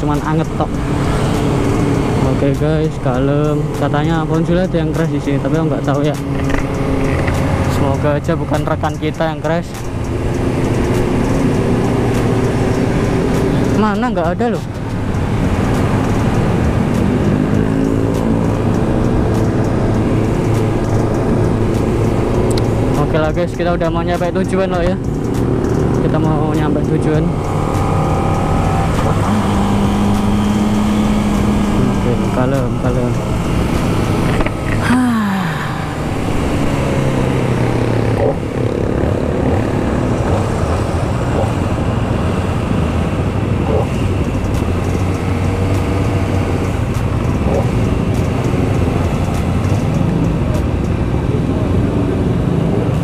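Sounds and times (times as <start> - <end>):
motorcycle engine running: 0.0 - 53.0
wind and road rush: 0.0 - 53.0.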